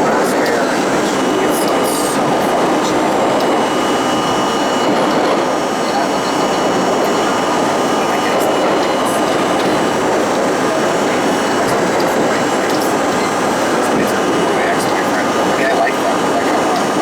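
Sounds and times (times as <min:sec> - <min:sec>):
faint steady whine: 0:00.0 - 0:17.0
rumble of train wheels on rail: 0:00.0 - 0:17.0.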